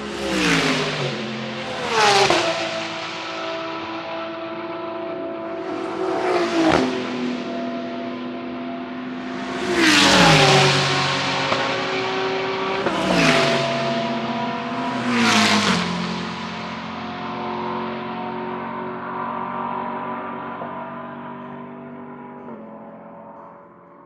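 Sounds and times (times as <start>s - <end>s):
race cars passing at speed: 0.0s - 24.0s.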